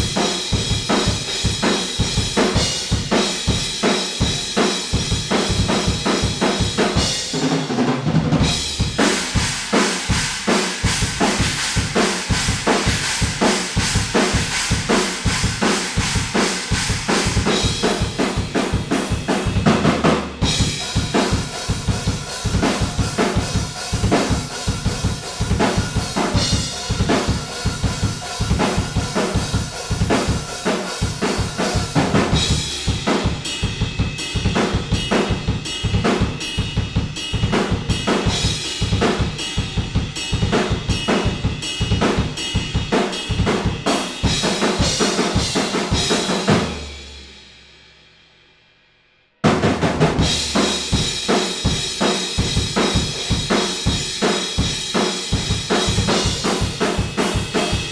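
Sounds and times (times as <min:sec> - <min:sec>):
drum kit played hard: 0:00.0 - 0:48.0, 0:49.4 - 0:57.9.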